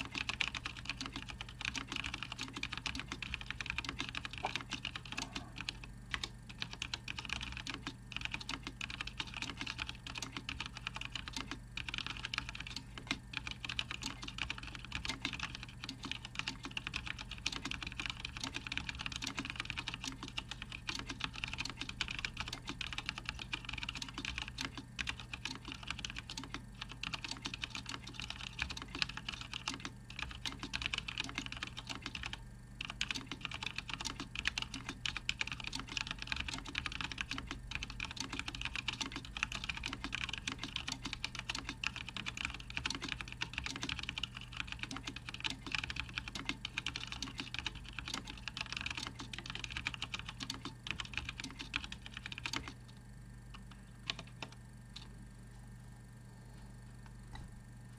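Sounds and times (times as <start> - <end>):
mechanical keyboard typing: 0.0 - 52.9, 53.5 - 55.1.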